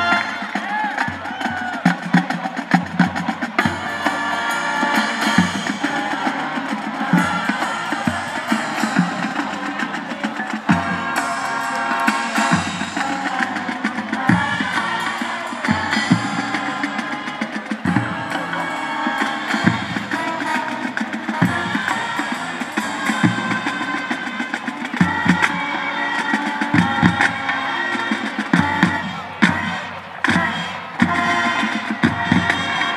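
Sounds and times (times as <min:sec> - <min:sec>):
brass chords: 0:00.0 - 0:01.2, 0:02.0 - 0:32.9
drumline: 0:00.0 - 0:32.9.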